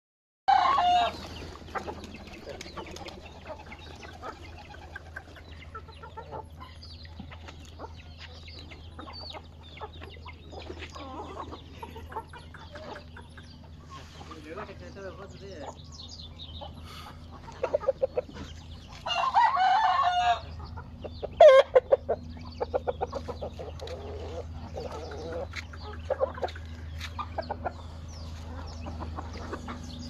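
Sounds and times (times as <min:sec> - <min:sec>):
chickens clucking: 0:00.5 - 0:30.0.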